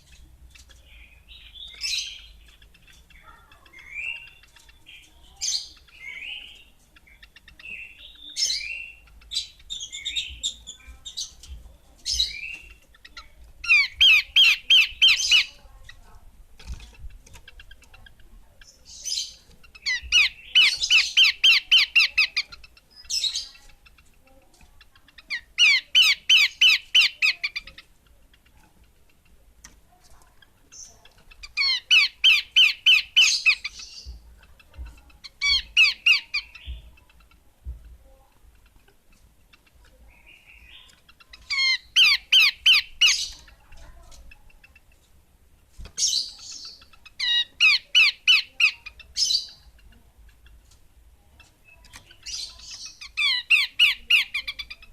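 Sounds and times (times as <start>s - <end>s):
bird chattering calls: 0.0s - 29.4s, 30.2s - 37.4s, 38.0s - 45.0s, 45.9s - 50.6s, 51.4s - 54.9s.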